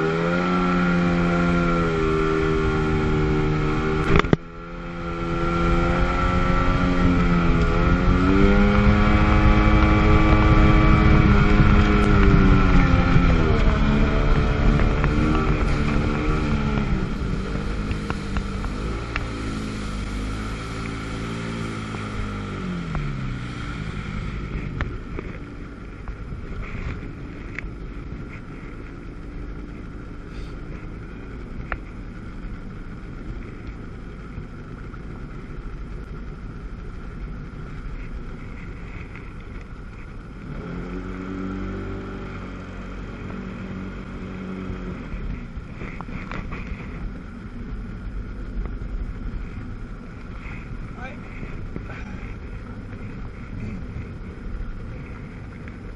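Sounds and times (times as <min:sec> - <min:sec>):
jet ski engine: 0:00.0 - 0:55.9
water noise: 0:00.0 - 0:55.9
wind: 0:00.0 - 0:55.9.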